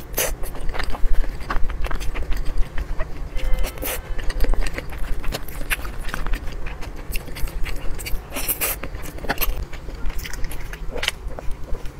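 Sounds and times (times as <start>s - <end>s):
person chewing: 0.0s - 11.9s.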